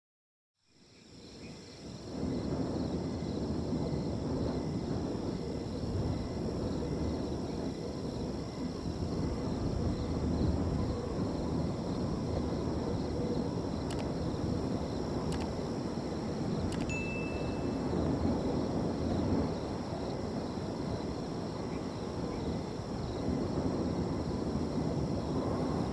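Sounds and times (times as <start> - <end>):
crickets trilling: 0.7 - 25.9
wind rushing through field: 0.8 - 25.9.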